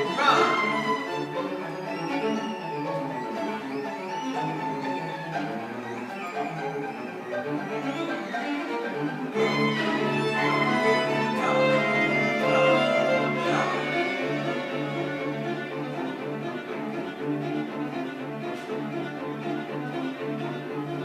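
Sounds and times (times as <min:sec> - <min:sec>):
string quartet playing: 0:00.0 - 0:21.0.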